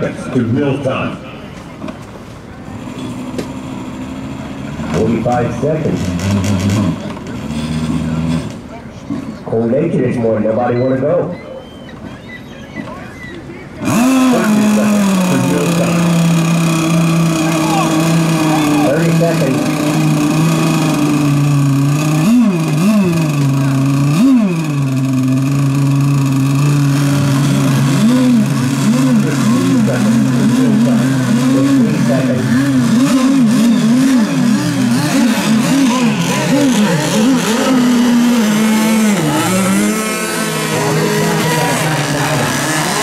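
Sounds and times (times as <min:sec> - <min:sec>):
boat engines revving: 0:00.0 - 0:43.0
rc boat engines droning: 0:00.0 - 0:43.0.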